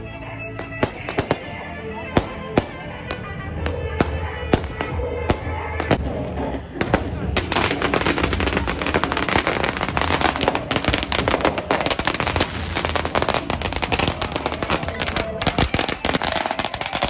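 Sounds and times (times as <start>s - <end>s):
firecrackers banging and crackling: 0.6s - 17.0s.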